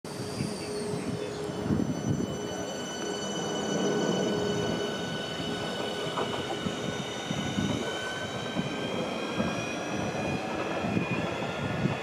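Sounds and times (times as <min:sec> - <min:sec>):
traction motors whining: 0:00.1 - 0:12.0
train wheels rumbling on rails: 0:00.1 - 0:12.0.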